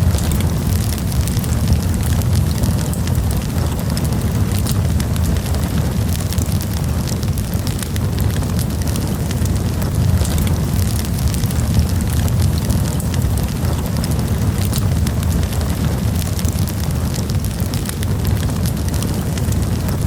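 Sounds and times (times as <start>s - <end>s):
campfire low rumble: 0.0s - 20.0s
fire crackles and pops: 0.0s - 20.0s.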